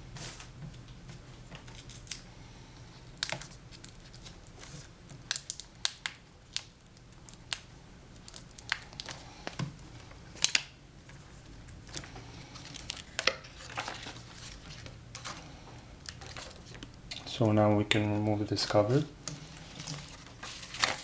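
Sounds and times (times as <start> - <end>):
plastic crinkling: 3.0 - 17.4, 18.1 - 21.0.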